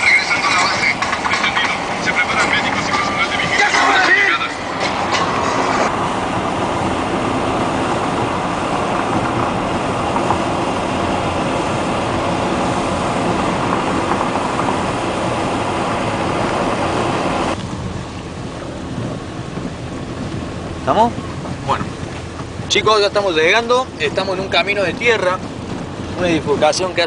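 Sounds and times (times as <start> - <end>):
car cabin road and engine noise: 0.0 - 27.0
tyres on wet road: 0.0 - 27.0.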